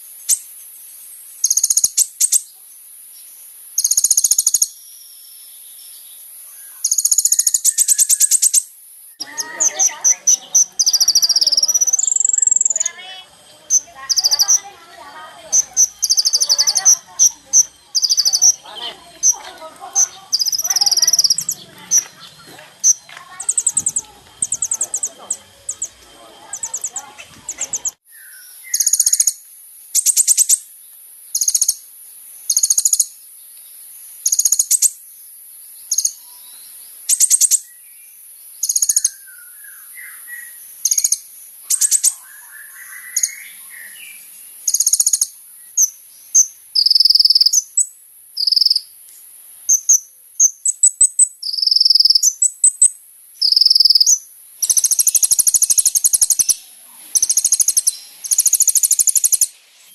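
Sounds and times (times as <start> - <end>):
steady high hiss: 0.0 - 59.9
bird singing buzzy trills: 1.4 - 29.4, 35.8 - 48.9, 49.7 - 59.9.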